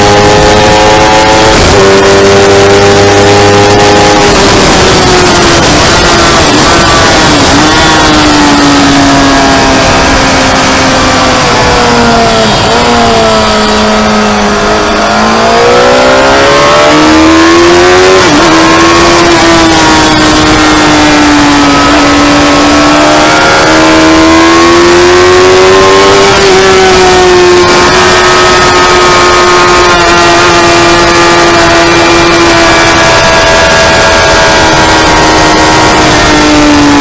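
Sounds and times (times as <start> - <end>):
motorcycle engine revving hard: 0.0 - 37.0.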